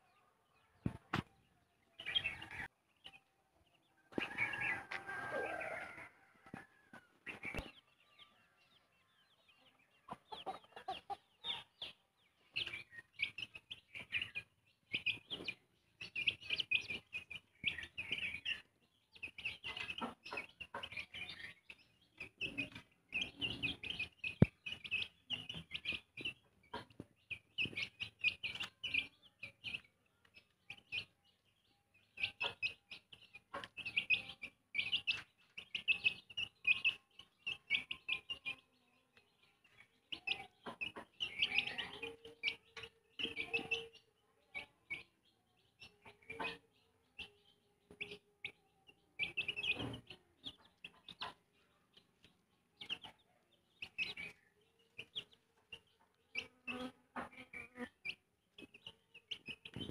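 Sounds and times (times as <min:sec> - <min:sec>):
chicks peeping and clucking: 0:00.0 - 0:59.9.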